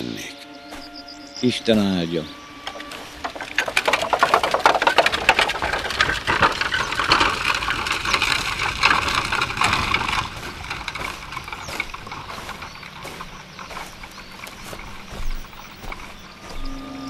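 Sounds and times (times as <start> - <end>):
wooden cart rattling over dirt: 0.0 - 17.0.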